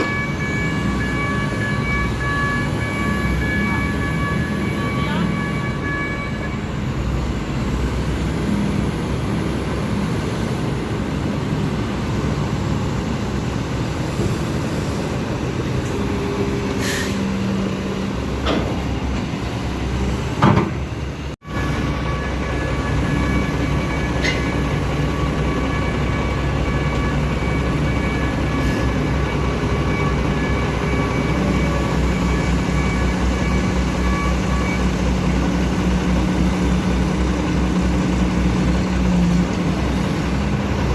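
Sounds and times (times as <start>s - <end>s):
diesel engine drone: 0.0s - 40.9s.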